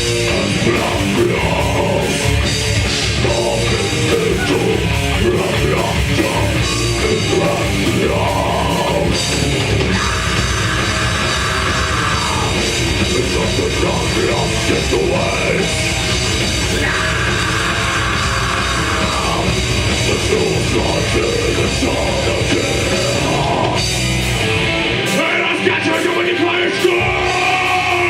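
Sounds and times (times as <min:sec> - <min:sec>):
death metal band playing live: 0:00.0 - 0:28.0
drum kit: 0:00.0 - 0:28.0.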